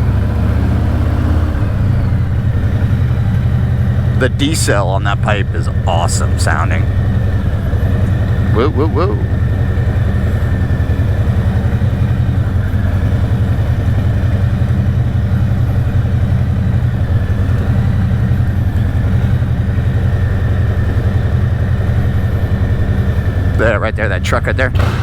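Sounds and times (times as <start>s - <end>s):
motorcycle exhaust pulsing: 0.0s - 25.0s.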